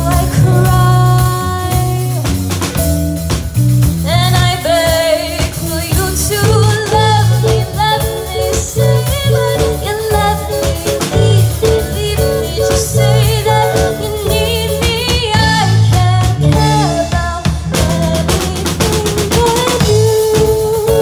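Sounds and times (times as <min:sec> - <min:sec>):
woman singing: 0:00.0 - 0:02.4, 0:04.0 - 0:21.0
bass guitar: 0:00.0 - 0:21.0
drum kit: 0:00.0 - 0:21.0
electric guitar: 0:00.0 - 0:21.0
keyboard: 0:00.0 - 0:21.0.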